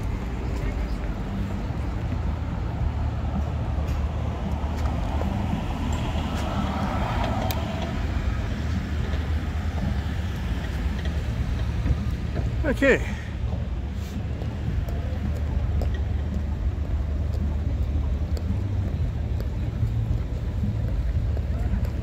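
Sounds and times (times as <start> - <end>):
low rumble of traffic: 0.0 - 22.0
vehicle passing: 0.0 - 22.0.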